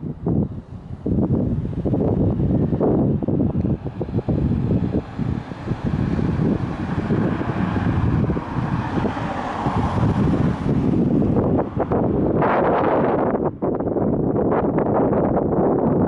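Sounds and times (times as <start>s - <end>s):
gusty wind buffeting microphone: 0.0s - 16.0s
vehicle passing: 0.3s - 13.6s.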